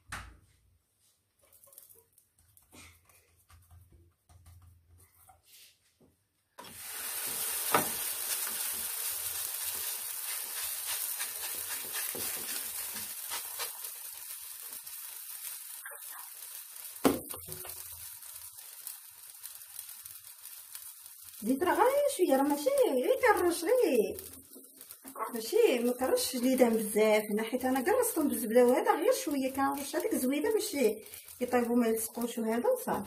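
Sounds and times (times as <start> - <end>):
dough sizzling in a frying pan: 1.3 - 3.7, 6.6 - 33.0.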